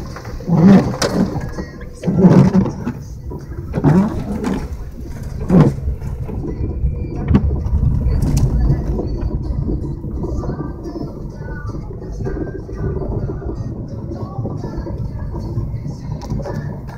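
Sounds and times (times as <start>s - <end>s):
vehicle engine and road rumble: 0.0s - 16.9s.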